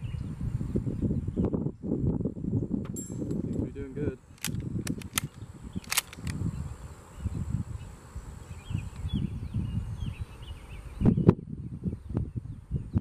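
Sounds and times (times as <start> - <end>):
small birds chirping: 0.0 - 2.8, 3.4 - 13.0
wind rumbling on microphone: 0.0 - 13.0.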